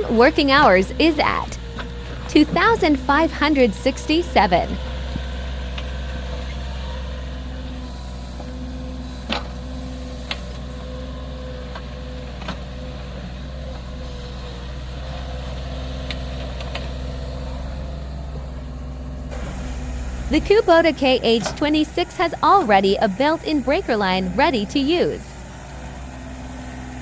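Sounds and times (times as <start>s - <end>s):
diesel engine running low: 0.0s - 27.0s.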